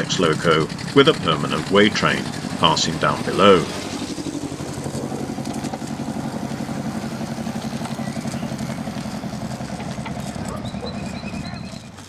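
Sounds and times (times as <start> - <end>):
model locomotive diesel chug: 0.0 - 12.0.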